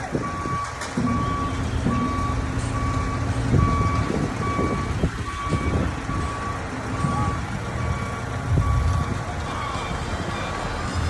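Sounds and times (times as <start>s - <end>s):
diesel engine rumble: 0.0s - 11.0s
reversing alarm beeping: 0.2s - 11.0s.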